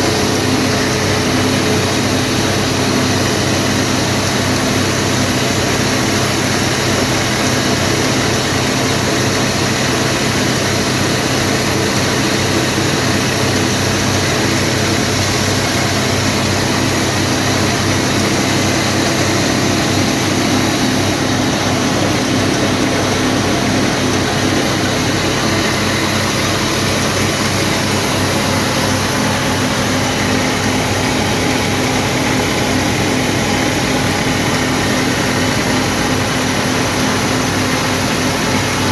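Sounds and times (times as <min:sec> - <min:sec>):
grain cleaning machine humming: 0:00.0 - 0:38.9.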